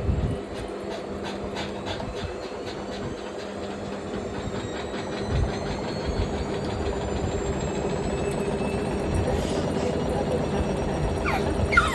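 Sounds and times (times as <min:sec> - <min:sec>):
washing machine running: 0:00.0 - 0:11.9.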